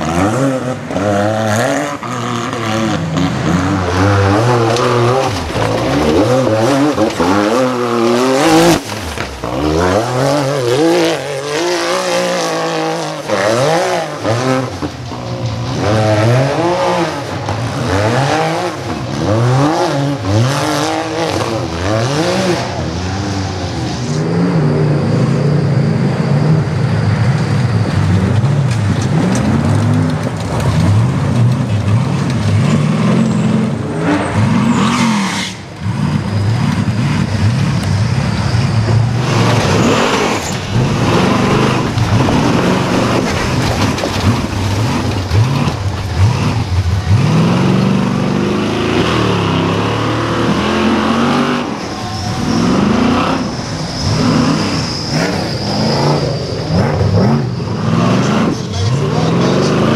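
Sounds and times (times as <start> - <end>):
buggy engines revving: 0.0 - 59.9.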